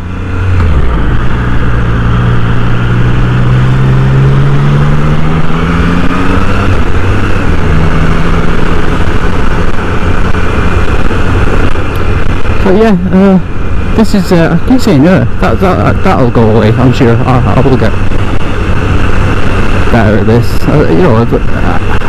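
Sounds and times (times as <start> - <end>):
motorcycle engine accelerating: 0.0 - 22.0
wind noise: 0.0 - 22.0.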